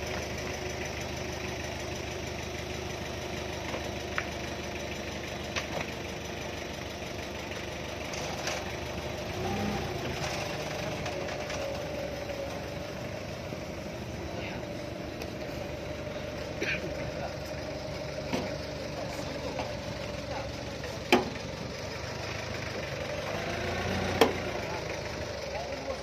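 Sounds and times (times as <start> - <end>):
forklift engine idling: 0.0 - 26.0.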